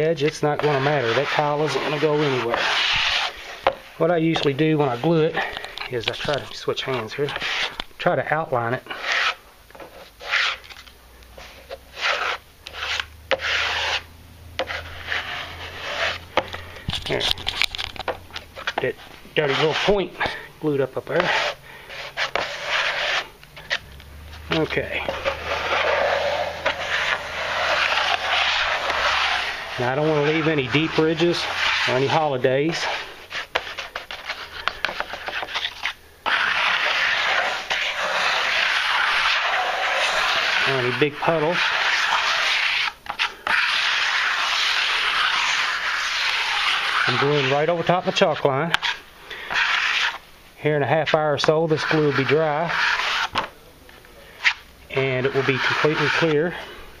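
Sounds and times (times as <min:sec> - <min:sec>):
trowel scraping adhesive on board: 0:00.0 - 0:23.8, 0:24.4 - 0:50.2, 0:50.9 - 0:53.5, 0:54.4 - 0:56.6.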